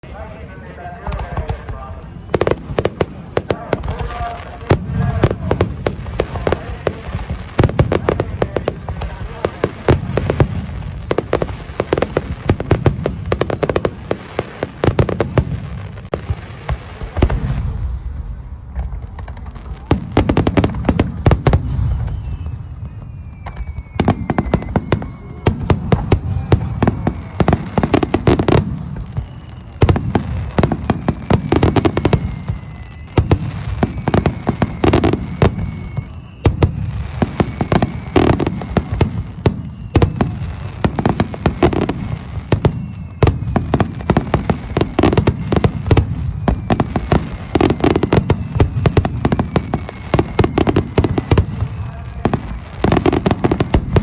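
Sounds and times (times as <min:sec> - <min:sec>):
falling firework whistles: 0:00.0 - 0:54.0
fireworks booms and crackling: 0:00.0 - 0:54.0.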